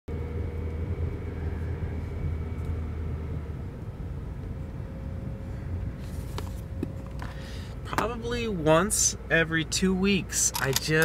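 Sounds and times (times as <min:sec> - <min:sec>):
car cabin engine and road hum: 0:00.1 - 0:11.0.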